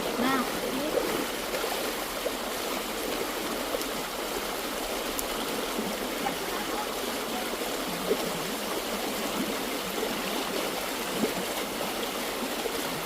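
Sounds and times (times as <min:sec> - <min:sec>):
water flowing: 0:00.0 - 0:13.0.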